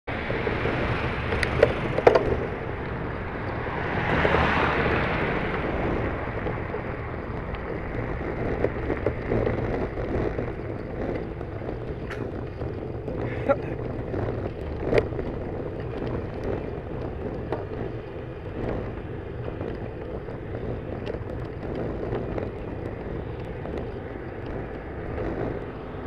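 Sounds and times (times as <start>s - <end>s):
passing traffic rushing: 0.0s - 26.0s
road rumble: 0.0s - 26.0s
wind buffeting microphone: 0.1s - 26.0s.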